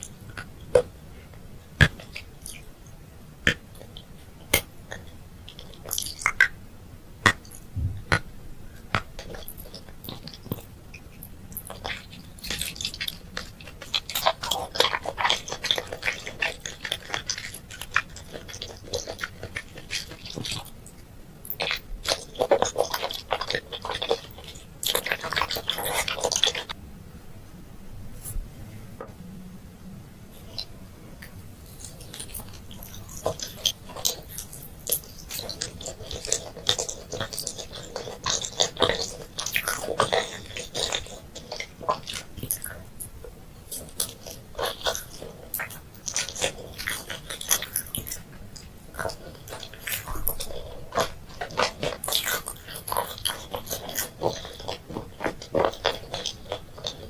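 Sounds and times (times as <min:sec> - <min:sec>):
wet crackling chewing: 0:00.0 - 0:06.6, 0:07.2 - 0:26.8, 0:30.4 - 0:57.0.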